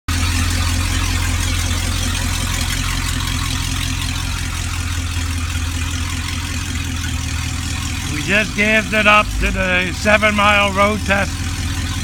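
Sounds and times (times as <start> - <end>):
car engine humming: 0.1 - 12.0.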